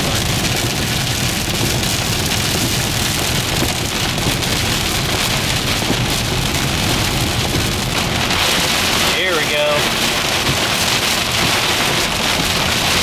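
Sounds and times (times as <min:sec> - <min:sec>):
car road noise: 0:00.0 - 0:13.0
heavy rain on a car: 0:00.0 - 0:13.0.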